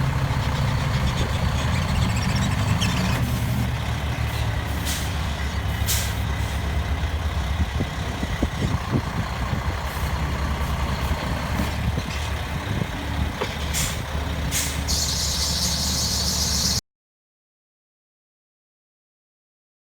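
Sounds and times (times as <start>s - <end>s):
diesel engine running: 0.0s - 16.8s.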